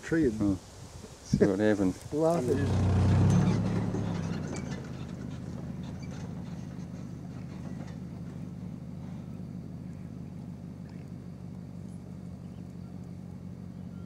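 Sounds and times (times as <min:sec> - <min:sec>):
vehicle engine idling: 0:01.9 - 0:14.0.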